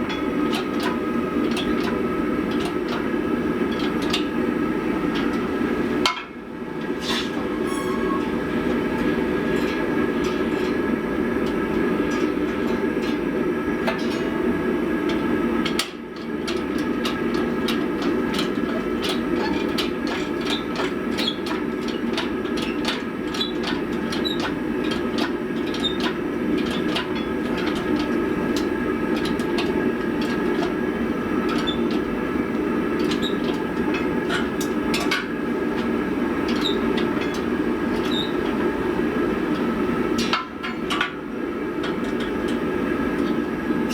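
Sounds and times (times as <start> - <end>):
constant machine tones: 0.0 - 43.9
forge and press equipment roaring: 0.0 - 43.9.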